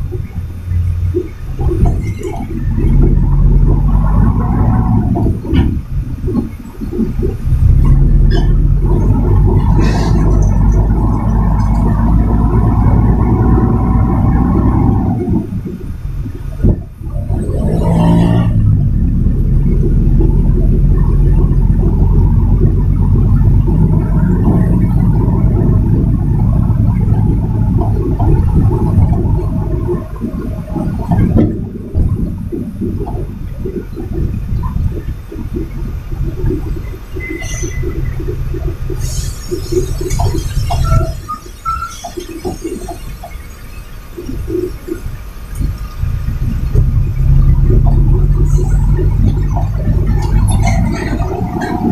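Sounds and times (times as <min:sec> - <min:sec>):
truck diesel engine drone: 0:00.0 - 0:51.9.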